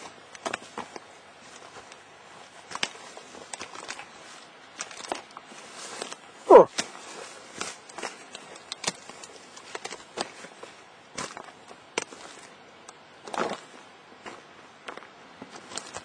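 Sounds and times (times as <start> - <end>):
footsteps through dry grass: 0.0 - 16.0.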